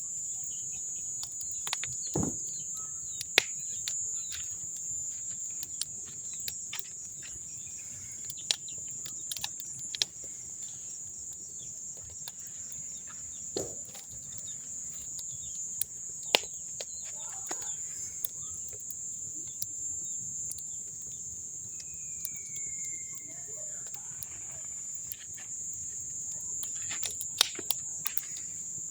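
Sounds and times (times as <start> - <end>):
high-pitched insect chorus: 0.0 - 28.9
bonfire crackling and popping: 0.1 - 28.9.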